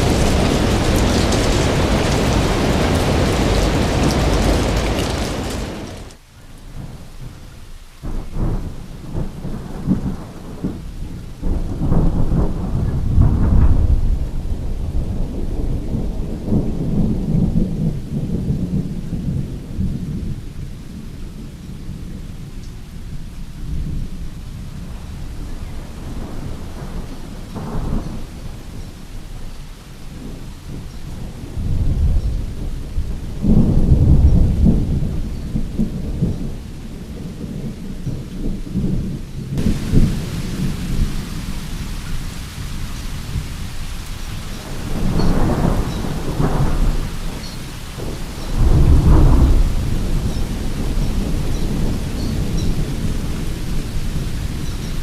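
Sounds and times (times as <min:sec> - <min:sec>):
rain falling: 0:00.0 - 0:55.0
thunder rumbling: 0:00.0 - 0:55.0.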